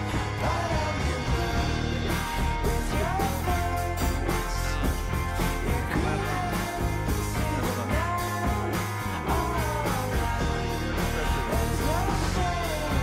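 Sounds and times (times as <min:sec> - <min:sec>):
rock music with guitar: 0:00.0 - 0:13.0.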